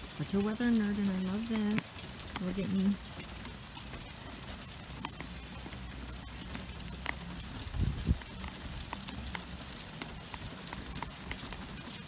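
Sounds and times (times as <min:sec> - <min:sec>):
hail and snow ticking on a deck: 0:00.0 - 0:12.0.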